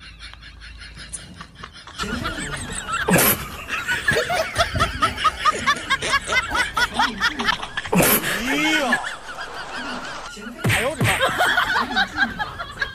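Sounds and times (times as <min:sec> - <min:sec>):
person laughing: 0:00.8 - 0:12.9.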